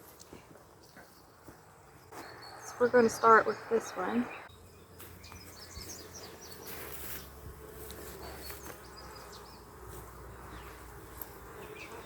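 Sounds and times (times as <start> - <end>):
bees buzzing: 2.0 - 12.0.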